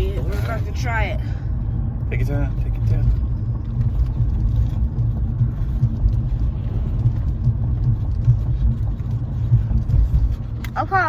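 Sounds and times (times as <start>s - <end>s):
car engine rumble: 0.0s - 11.0s.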